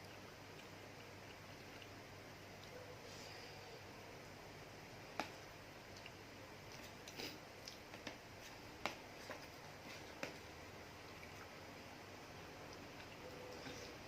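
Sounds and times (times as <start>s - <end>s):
soft squishy chewing: 0.0s - 14.0s.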